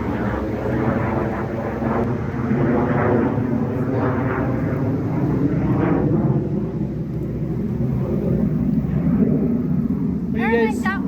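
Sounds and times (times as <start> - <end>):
fighter jet flying overhead: 0.0 - 11.0.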